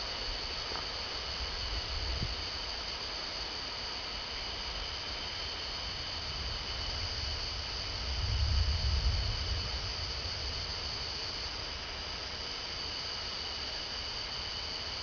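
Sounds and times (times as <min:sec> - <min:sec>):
night insects chorus: 0:00.0 - 0:15.0.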